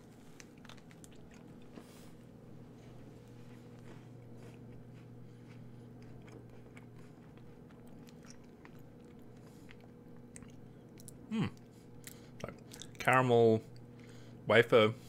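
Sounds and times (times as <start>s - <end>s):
chewing biscuit soft crunches: 0.0s - 13.9s
low steady hum: 0.0s - 15.0s.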